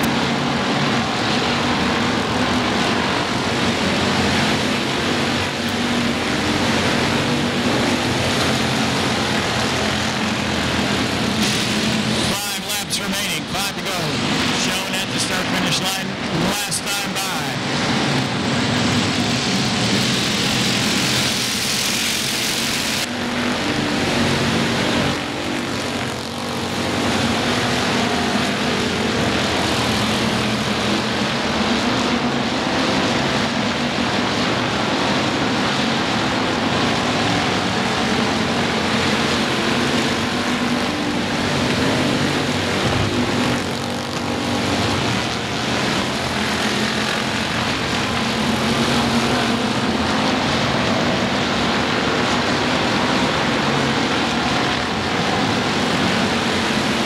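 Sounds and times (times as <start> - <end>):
stock car engines racing: 0.0 - 57.0.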